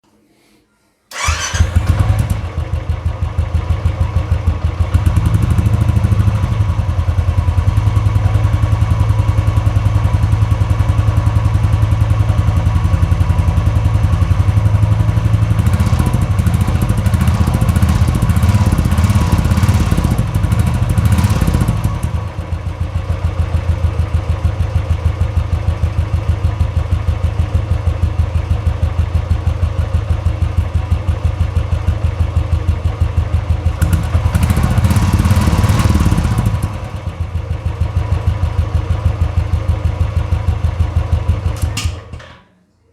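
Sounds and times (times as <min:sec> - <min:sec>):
single-cylinder motorcycle engine: 0:01.1 - 0:42.5.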